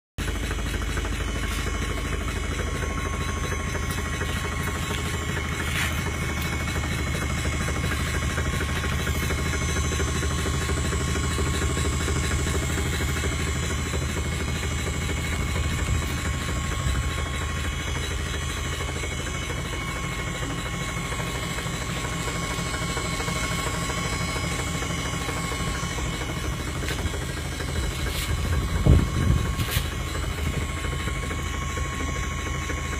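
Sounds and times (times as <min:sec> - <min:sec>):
electric motor low hum: 0:00.2 - 0:32.9
thin high whine: 0:00.4 - 0:32.9.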